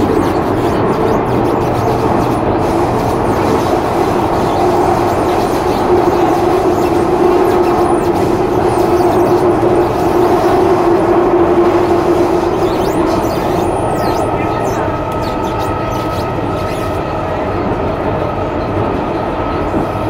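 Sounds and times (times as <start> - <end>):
electric motor whine: 0.0 - 20.0
train wheels rumbling on rails: 0.0 - 20.0.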